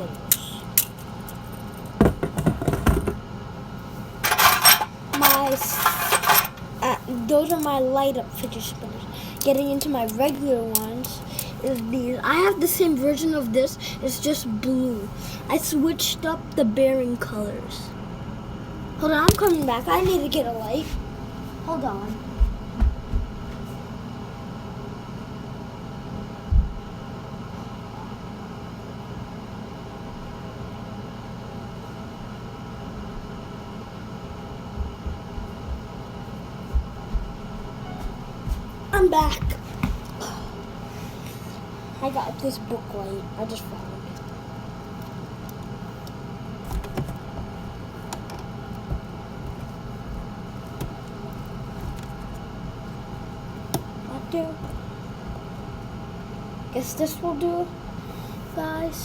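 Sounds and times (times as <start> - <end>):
background hum and hiss: 0.0 - 59.0.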